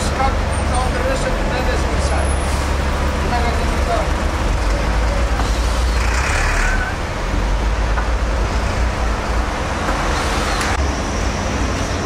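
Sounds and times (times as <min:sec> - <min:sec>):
low rumble of city traffic: 0:00.0 - 0:12.0.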